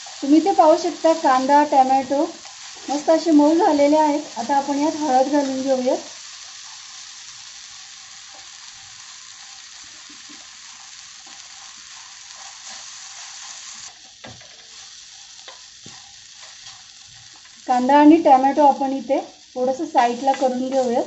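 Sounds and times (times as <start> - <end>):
food sizzling in oil: 0.0 - 21.0
scraping and stirring ticks: 0.0 - 21.0.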